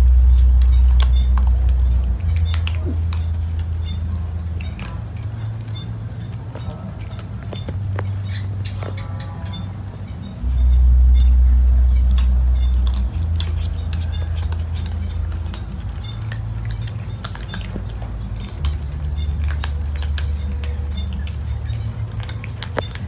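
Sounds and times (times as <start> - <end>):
cats crunching dry kibble: 0.0 - 10.0, 11.7 - 23.0
loud low rumble: 0.0 - 23.0.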